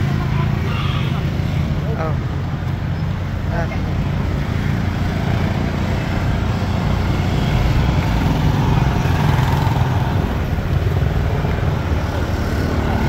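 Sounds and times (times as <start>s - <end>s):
motorcycle engines passing: 0.0s - 13.0s.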